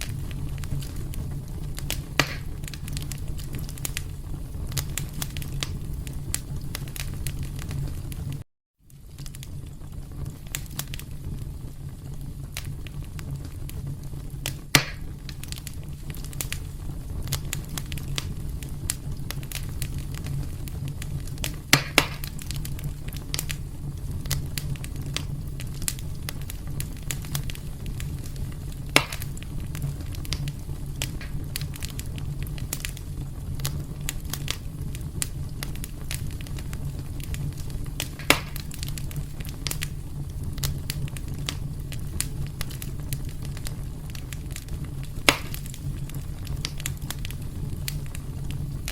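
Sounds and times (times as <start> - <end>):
fire pops and snaps: 0.0 - 48.9
wood fire crackling: 0.0 - 48.9.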